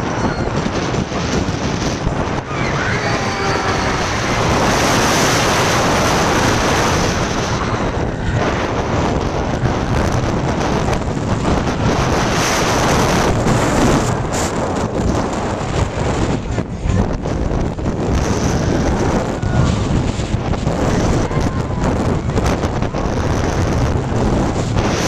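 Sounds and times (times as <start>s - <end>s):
roller coaster rumbling on track: 0.0s - 25.0s
wind buffeting microphone: 0.0s - 25.0s.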